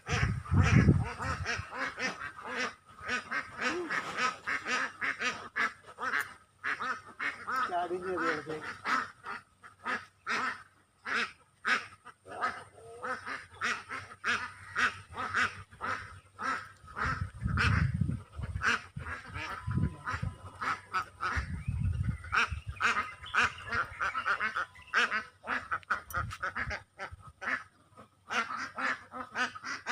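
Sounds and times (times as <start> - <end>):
ducks quacking: 0.0 - 29.9.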